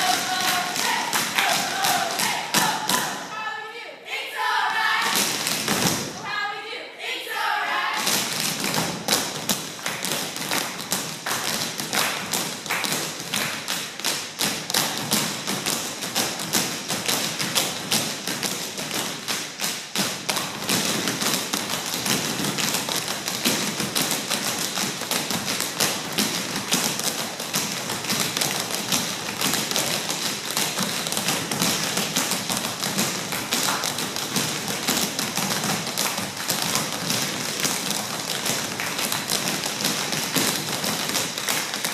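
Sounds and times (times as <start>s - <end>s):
tap shoes on stage floor: 0.0s - 3.3s, 5.0s - 6.2s, 8.0s - 41.9s.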